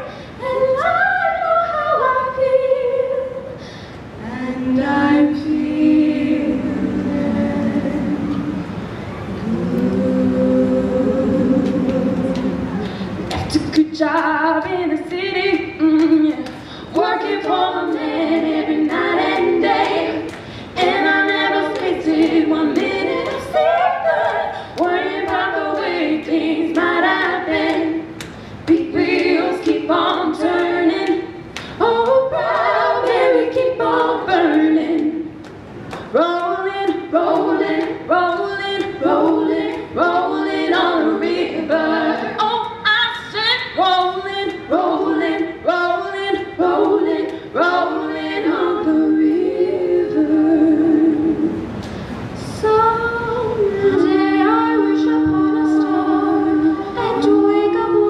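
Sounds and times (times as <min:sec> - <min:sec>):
women singing a cappella: 0:00.0 - 0:58.0.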